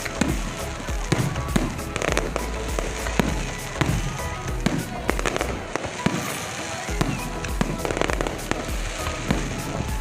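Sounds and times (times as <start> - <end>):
fireworks bursting and crackling: 0.0 - 10.0
music playing: 0.0 - 10.0.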